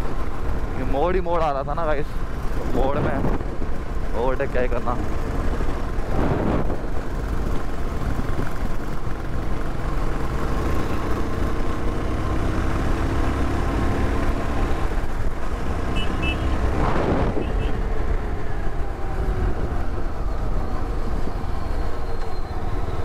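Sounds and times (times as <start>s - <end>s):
road and wind noise: 0.0s - 23.0s
motorcycle engine cruising: 2.1s - 23.0s.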